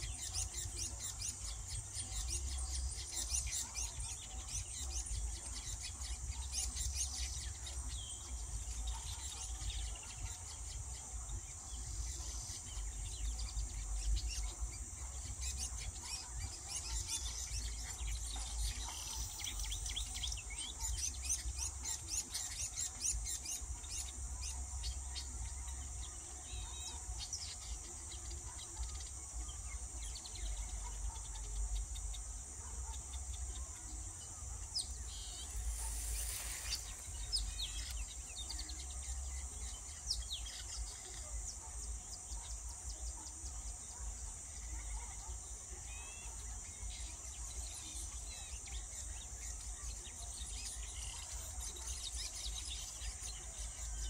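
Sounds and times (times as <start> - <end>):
small birds chirping: 0.0 - 54.0
steady high hiss: 0.0 - 54.0.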